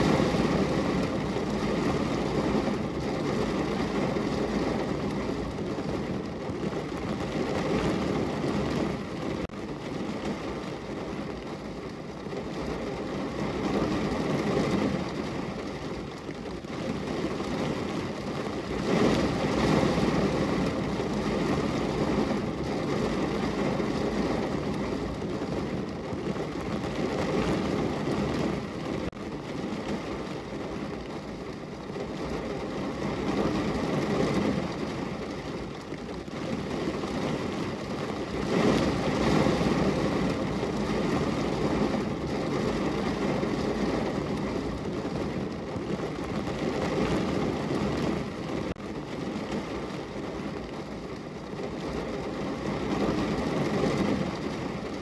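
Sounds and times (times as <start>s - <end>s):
rain pattering on a window: 0.0s - 55.0s.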